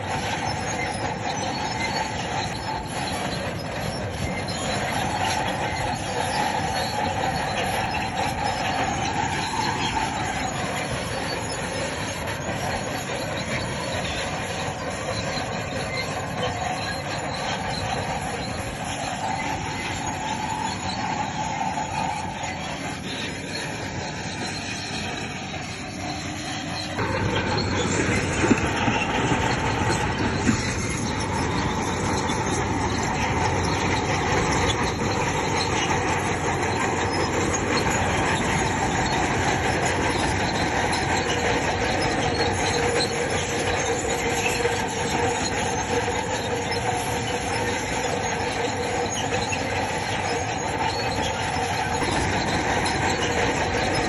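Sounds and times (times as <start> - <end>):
bulldozer engine running: 0.0 - 54.0
steel tracks squealing and clattering: 0.0 - 54.0.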